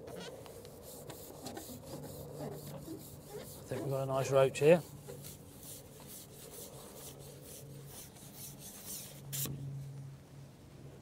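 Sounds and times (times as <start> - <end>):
fishing pole rubbing and scraping: 0.1 - 9.5.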